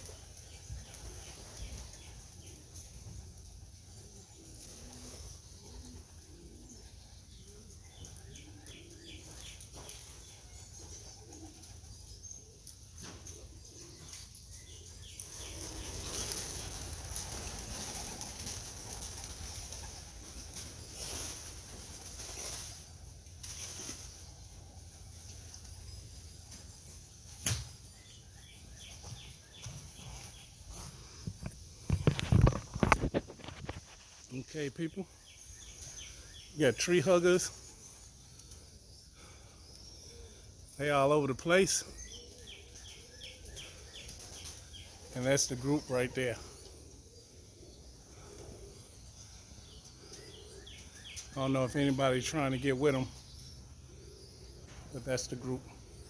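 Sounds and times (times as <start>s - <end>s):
bird chirping: 0.0s - 56.0s
pigeons cooing: 0.0s - 56.0s.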